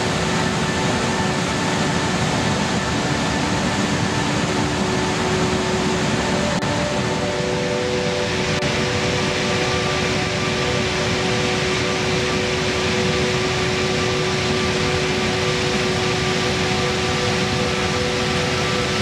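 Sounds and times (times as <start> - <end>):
steady held tones: 0.0 - 19.0
waterfalls rushing: 0.0 - 19.0.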